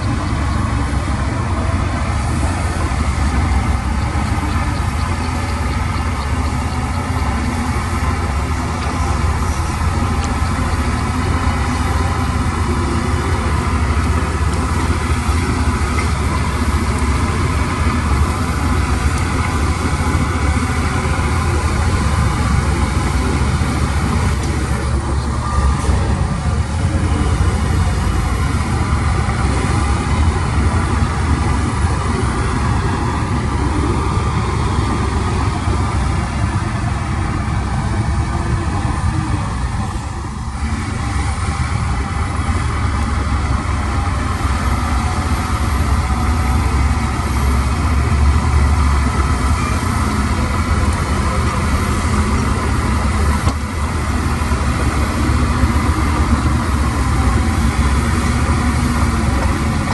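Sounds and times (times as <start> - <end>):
diesel construction machinery running: 0.0 - 59.9.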